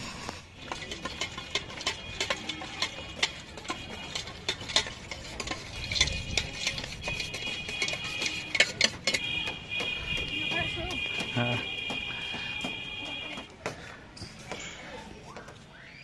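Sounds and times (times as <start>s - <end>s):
utensils tapping against a bowl: 0.5s - 13.6s.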